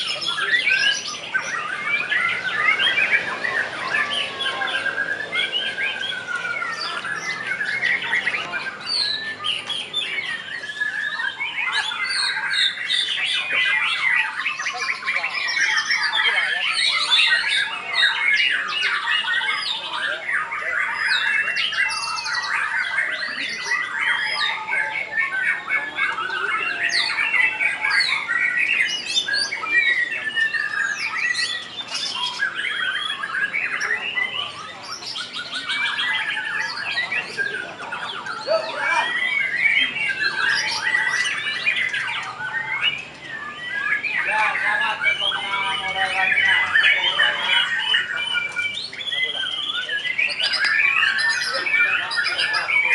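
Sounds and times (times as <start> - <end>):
songbirds whistling and trilling: 0.0 - 52.9.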